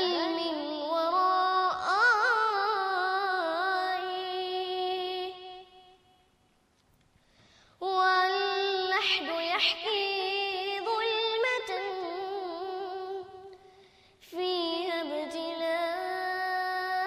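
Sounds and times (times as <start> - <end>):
solo voice singing unaccompanied: 0.0 - 6.1, 7.8 - 17.0.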